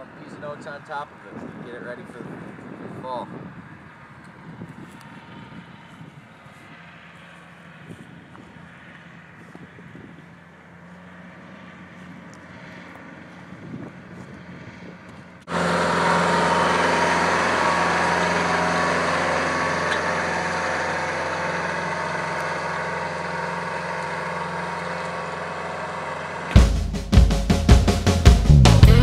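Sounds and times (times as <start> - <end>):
diesel tractor running: 0.0 - 29.0.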